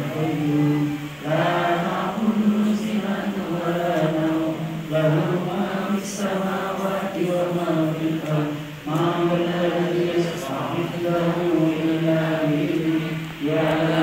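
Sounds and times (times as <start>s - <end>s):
group chanting prayer: 0.0s - 14.0s.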